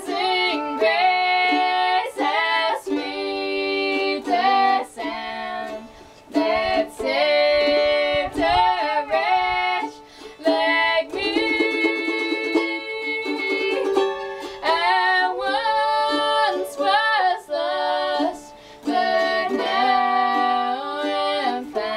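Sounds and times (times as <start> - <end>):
girls singing together: 0.0 - 21.9
mandolin playing: 0.0 - 21.9.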